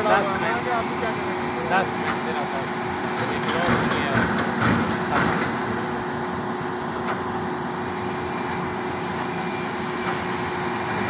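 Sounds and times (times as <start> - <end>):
concrete pump engine running: 0.0 - 11.0.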